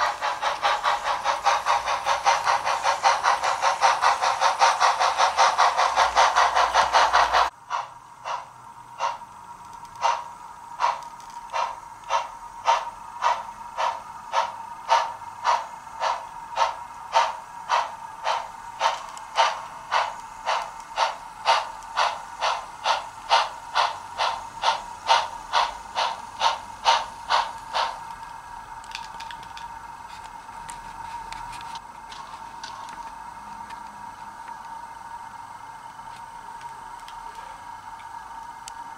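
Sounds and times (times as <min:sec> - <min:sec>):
model steam locomotive chuffs: 0:00.0 - 0:38.9
steady high hum: 0:00.0 - 0:38.9.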